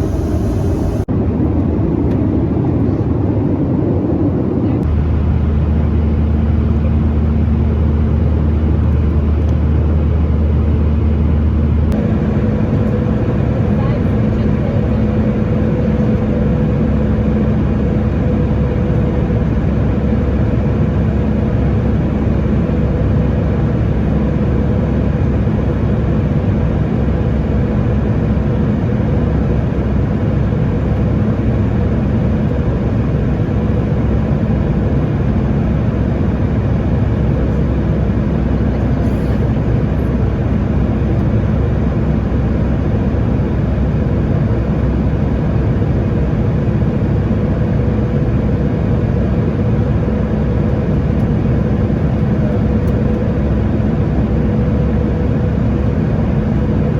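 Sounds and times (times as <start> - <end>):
airplane cabin engine rush: 0.0 - 56.9.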